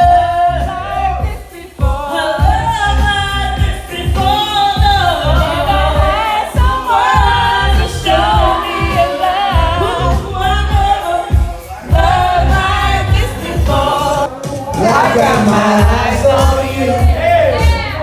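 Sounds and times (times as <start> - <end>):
backing track with bass beat: 0.0 - 18.0
person singing: 0.0 - 18.0.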